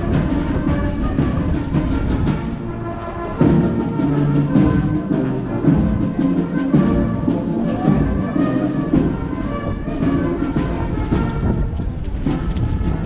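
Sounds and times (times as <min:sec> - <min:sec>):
brass band playing: 0:00.0 - 0:13.0
steady drum beat: 0:00.0 - 0:13.0.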